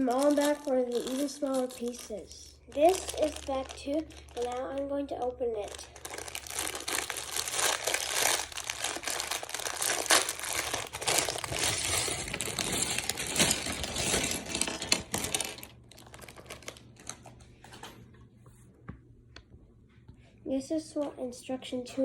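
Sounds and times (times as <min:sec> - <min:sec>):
plastic bag crinkling and tearing: 0:00.0 - 0:17.8.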